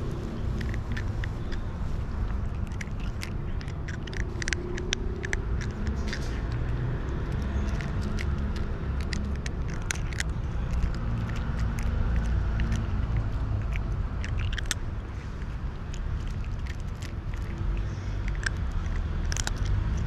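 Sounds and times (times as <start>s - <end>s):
cat crunching kibble: 0.0s - 20.0s
steady low rumble: 0.0s - 20.0s.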